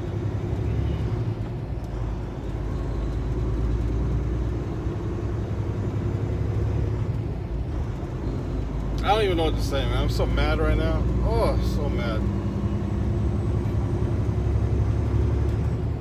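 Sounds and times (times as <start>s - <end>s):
road noise: 0.0s - 16.0s
truck diesel engine drone: 0.0s - 16.0s.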